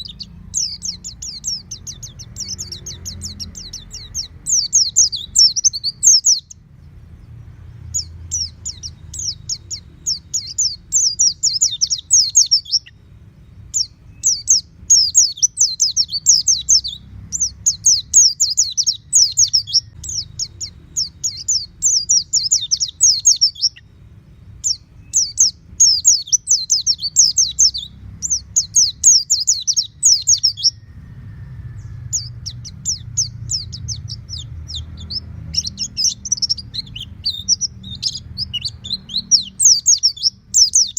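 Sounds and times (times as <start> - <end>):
faint low rumble: 0.0 - 12.8, 13.4 - 40.9
bird twittering song: 0.0 - 40.9.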